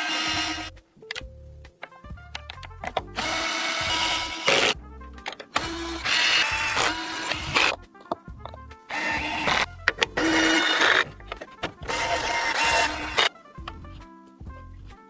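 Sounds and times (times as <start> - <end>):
sharp clicks: 0.0 - 13.8
background music snippets: 0.0 - 15.0.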